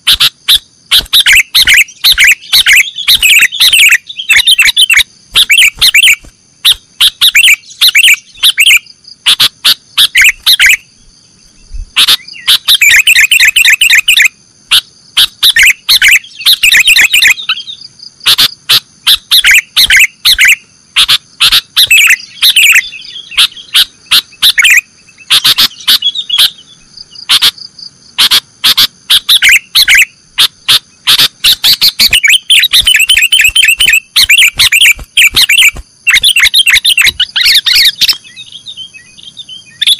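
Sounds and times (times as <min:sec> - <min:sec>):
bird singing chattering notes: 0:00.0 - 0:39.9
faint high whine: 0:00.0 - 0:39.9.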